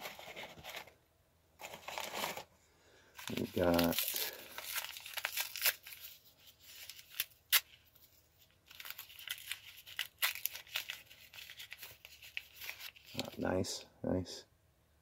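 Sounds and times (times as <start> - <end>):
paper wrapping crinkling: 0.0 - 1.0, 1.6 - 2.5, 3.1 - 13.4.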